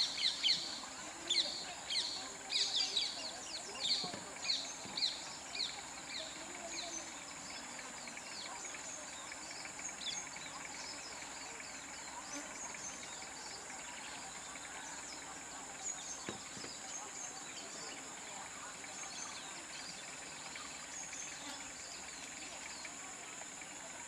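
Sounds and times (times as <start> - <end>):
high insect buzz: 0.0 - 23.8
birds chirping: 0.0 - 24.0.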